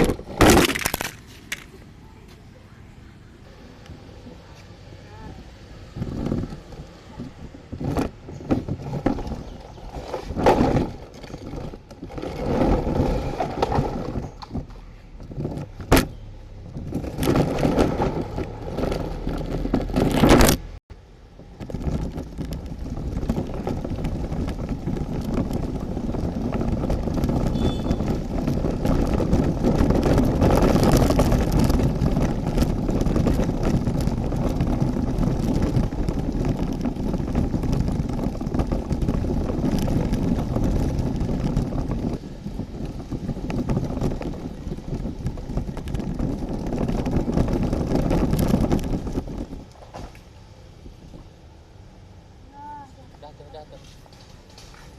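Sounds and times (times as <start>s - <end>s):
plastic toys clattering and scraping: 0.0s - 1.8s, 5.9s - 20.7s, 21.4s - 50.2s
toy wheels rolling rumble: 0.0s - 1.8s, 5.0s - 16.0s, 16.6s - 20.6s, 21.3s - 51.4s.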